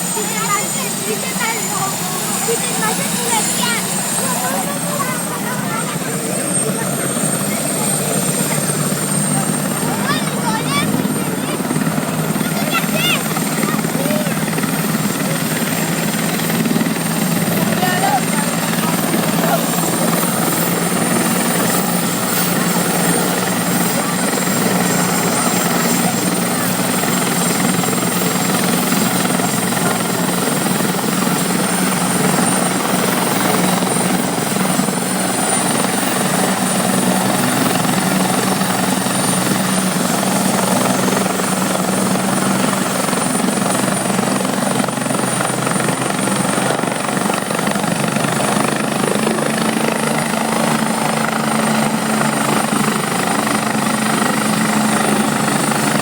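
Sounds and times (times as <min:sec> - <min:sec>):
helicopter rotor and engine: 0:00.0 - 0:56.0
high turbine whine: 0:00.0 - 0:56.0.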